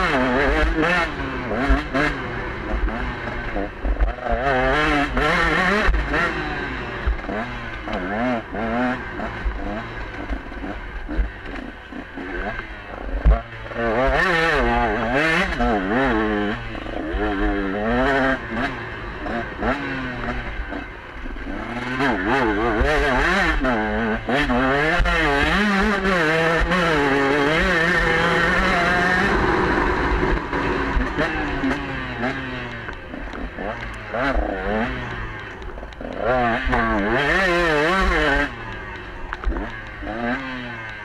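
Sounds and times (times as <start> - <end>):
two-stroke motorcycle engine revving: 0.0 - 41.0.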